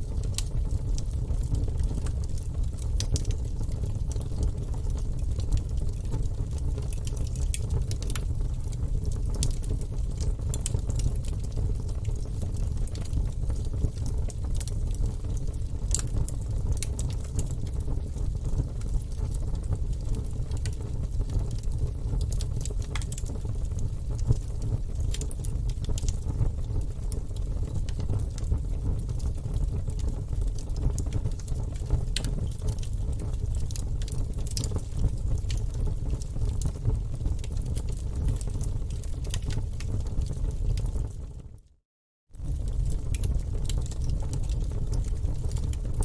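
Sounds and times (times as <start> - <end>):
wood fire crackling: 0.0 - 41.5, 42.4 - 46.0.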